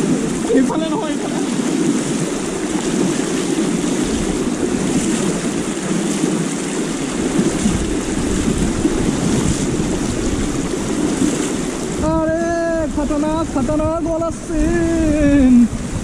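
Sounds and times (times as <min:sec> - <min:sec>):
river rushing over stones: 0:00.0 - 0:16.0
wind rumble on microphone: 0:00.0 - 0:16.0.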